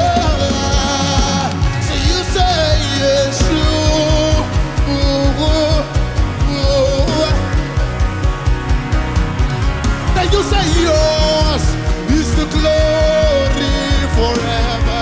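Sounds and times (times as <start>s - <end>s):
steady drum beat: 0.0s - 15.0s
worship band music: 0.0s - 15.0s.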